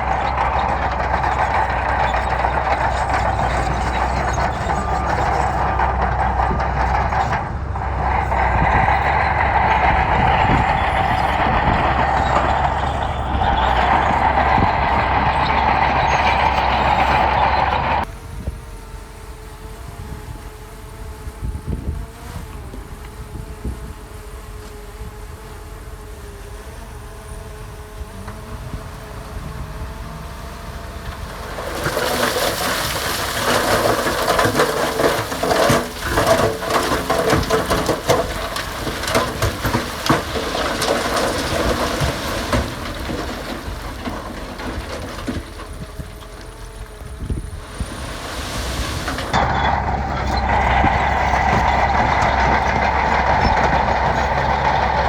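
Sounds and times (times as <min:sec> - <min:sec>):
gravel and stone clattering: 0:00.0 - 0:18.1, 0:28.3 - 0:55.0
heavy diesel machinery running: 0:00.0 - 0:55.0.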